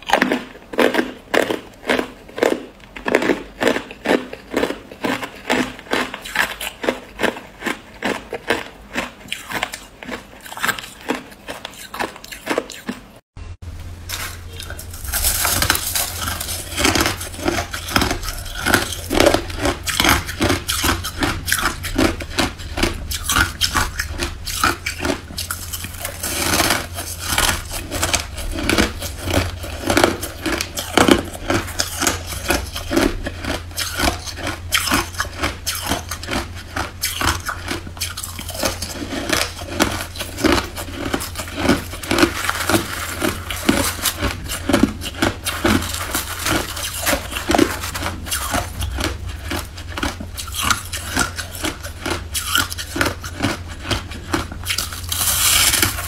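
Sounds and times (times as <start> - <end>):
person chewing crunchy ice: 0.0 - 13.2, 14.0 - 56.0.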